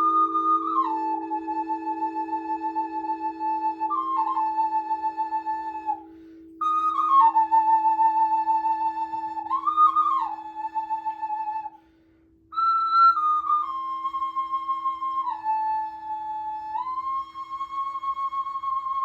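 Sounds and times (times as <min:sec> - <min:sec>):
flute playing long notes: 0:00.0 - 0:19.0.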